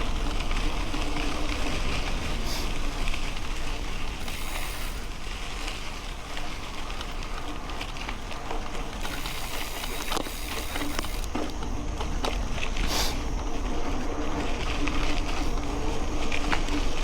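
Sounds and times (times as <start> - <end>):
bike rattles and clicks: 0.0 - 17.0
bike tyres crunching gravel: 0.0 - 17.0.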